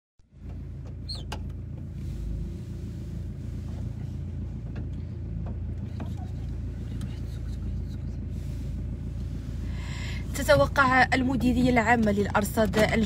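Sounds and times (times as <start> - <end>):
car engine idling: 0.3 - 13.0.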